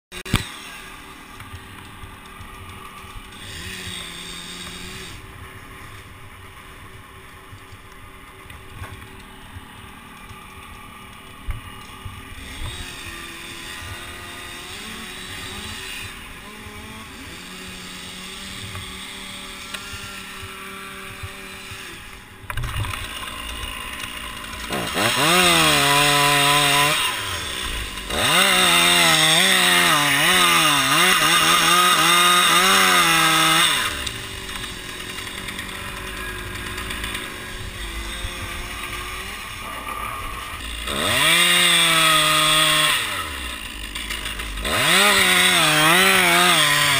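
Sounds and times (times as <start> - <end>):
chainsaw cutting wood: 0.1 - 46.9
chainsaw idling and revving: 0.1 - 46.9.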